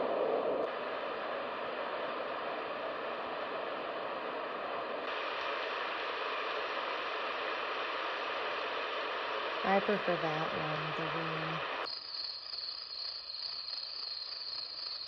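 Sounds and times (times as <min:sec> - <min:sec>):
sound machine rain sound: 0:00.0 - 0:15.0.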